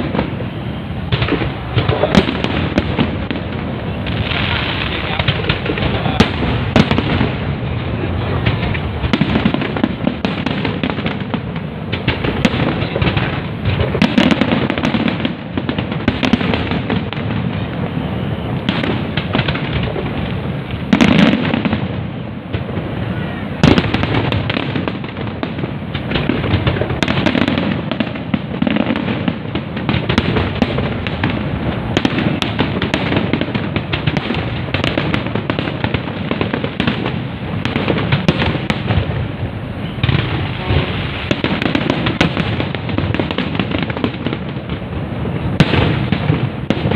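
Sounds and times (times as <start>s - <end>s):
fireworks booms: 0.0s - 46.9s
fireworks crackling: 0.0s - 46.9s.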